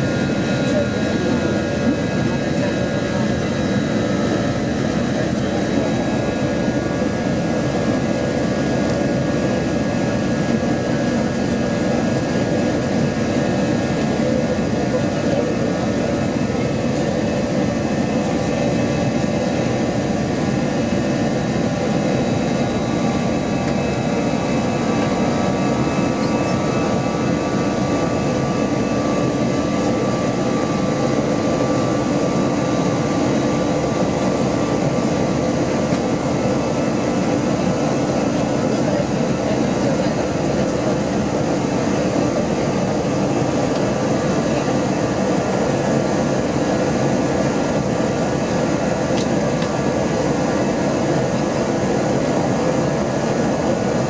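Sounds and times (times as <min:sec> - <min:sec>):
jet engines and airflow rush: 0:00.0 - 0:54.0.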